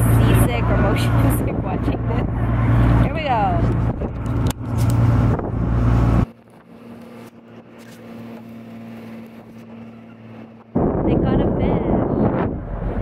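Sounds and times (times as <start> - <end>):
boat engine drone: 0.0 - 13.0
wind rumble on microphone: 0.0 - 13.0.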